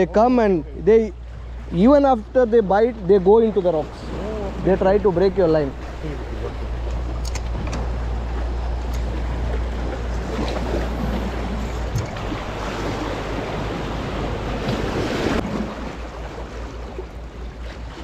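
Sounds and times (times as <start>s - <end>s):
wind buffeting microphone: 1.0s - 18.0s
waves splashing against rocks: 1.2s - 18.0s.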